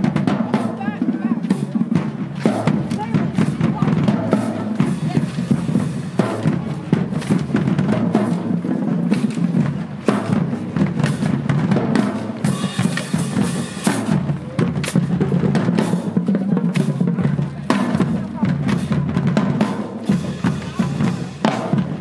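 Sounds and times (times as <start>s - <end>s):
bass drums beating: 0.0s - 22.0s
snare drums beating: 0.0s - 22.0s.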